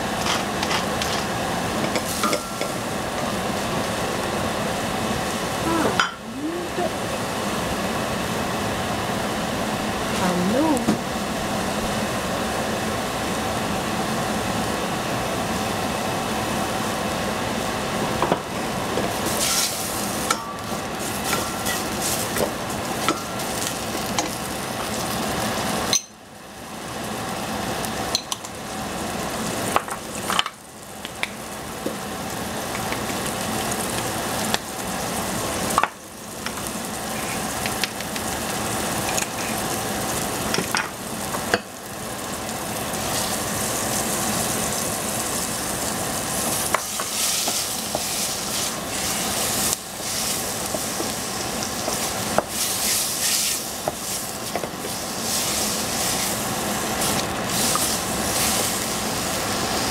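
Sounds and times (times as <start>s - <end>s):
vegetables sizzling in a pan: 0.0s - 59.9s.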